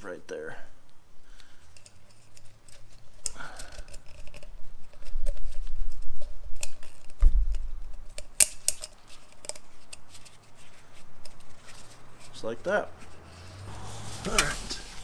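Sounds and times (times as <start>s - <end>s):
clicks and rubbing of gloved hands: 1.3s - 15.0s.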